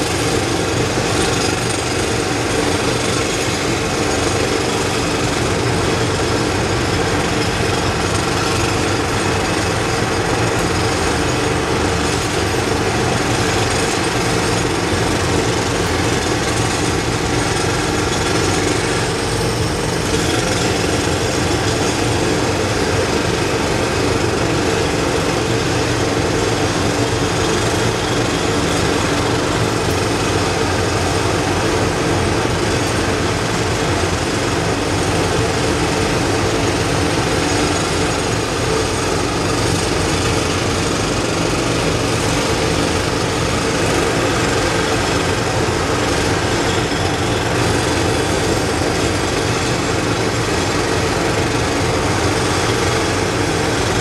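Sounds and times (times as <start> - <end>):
jackhammers rattling: 0.0 - 54.0.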